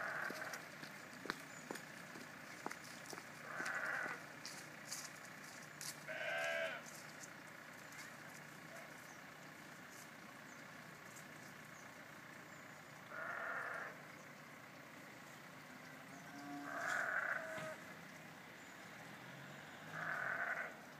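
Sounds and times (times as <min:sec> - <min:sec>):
faint steady background noise: 0:00.0 - 0:20.9
farm animals calling: 0:00.0 - 0:20.9.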